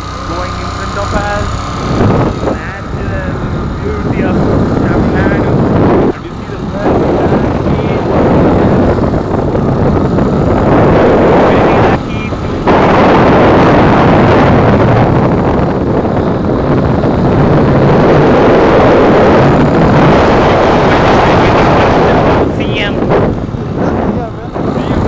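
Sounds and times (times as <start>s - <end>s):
road noise: 0.0s - 25.0s
vehicle engine: 0.0s - 25.0s
wind buffeting microphone: 0.0s - 25.0s.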